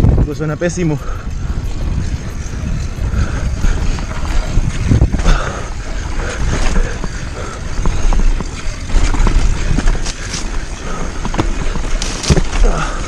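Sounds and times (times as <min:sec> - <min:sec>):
mountain bike clattering on dirt: 0:00.0 - 0:13.0
wind buffeting microphone: 0:00.0 - 0:13.0.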